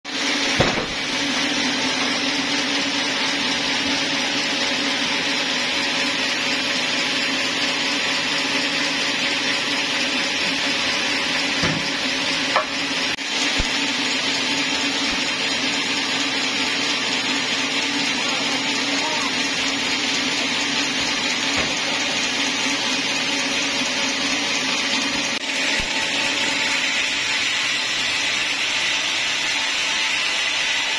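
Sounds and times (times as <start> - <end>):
band saw humming: 0.1 - 30.9.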